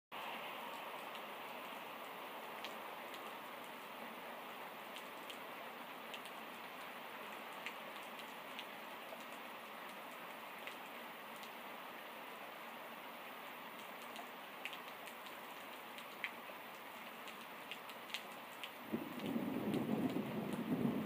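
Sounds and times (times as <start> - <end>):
steady rain hiss: 0.1 - 21.0
raindrops ticking: 0.2 - 21.0.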